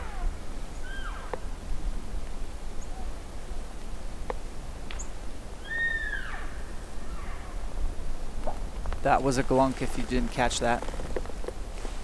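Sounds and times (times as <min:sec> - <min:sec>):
steady wind noise: 0:00.0 - 0:12.0.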